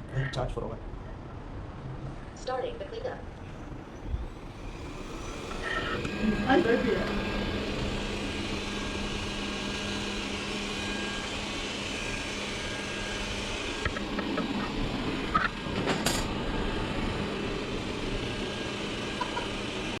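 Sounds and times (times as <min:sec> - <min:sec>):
robot vacuum whirring: 0:04.0 - 0:20.0.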